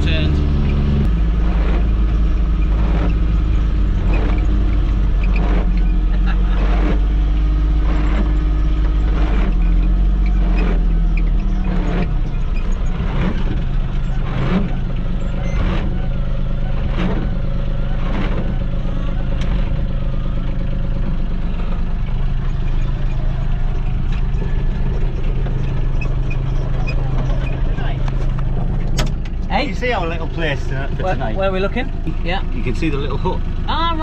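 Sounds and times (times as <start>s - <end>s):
utility vehicle engine running: 0.0s - 34.0s.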